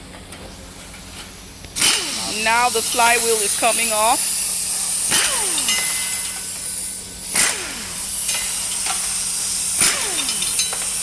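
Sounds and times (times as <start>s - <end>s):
power tool bursts spinning down: 1.8s - 11.0s.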